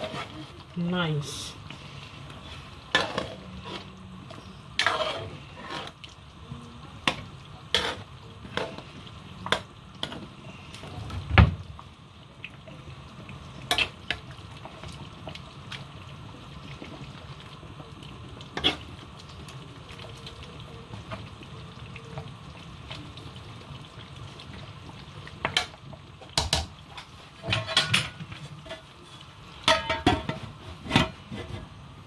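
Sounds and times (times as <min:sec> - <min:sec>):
pot bubbling: 0:00.0 - 0:32.0.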